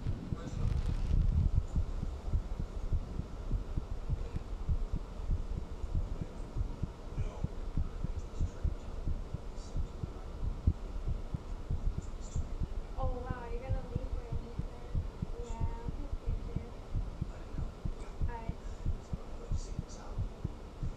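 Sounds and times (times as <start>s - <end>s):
heartbeat thumps: 0.0s - 20.9s.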